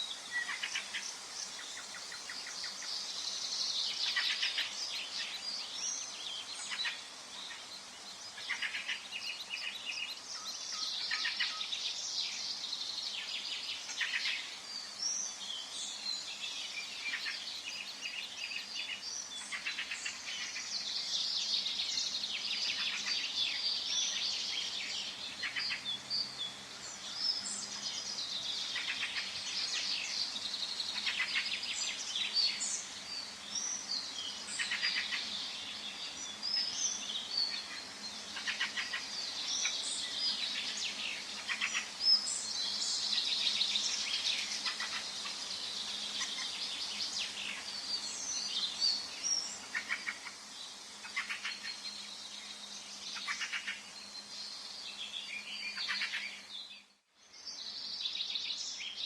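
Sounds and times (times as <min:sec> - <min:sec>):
birds chirping and trilling: 0:00.0 - 0:59.0
faint steady hiss: 0:00.0 - 0:59.0.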